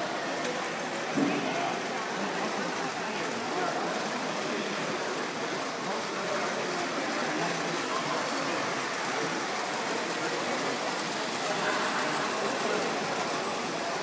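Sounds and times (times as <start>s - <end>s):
model trains rattling on track: 0.0s - 14.0s.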